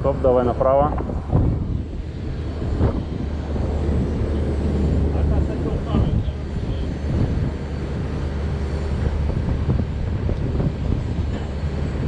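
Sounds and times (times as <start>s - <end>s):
crane engine running: 0.0s - 12.0s
wind buffeting microphone: 0.0s - 12.0s.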